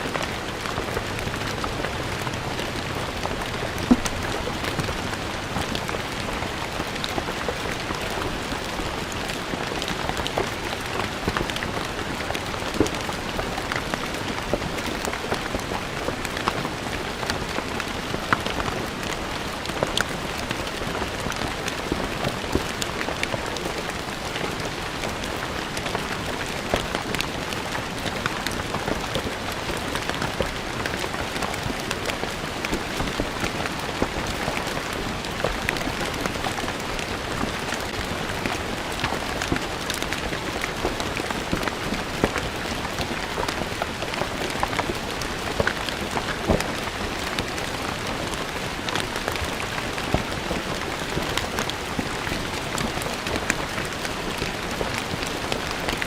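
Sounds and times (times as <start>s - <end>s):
rain on stone paving: 0.0s - 56.0s.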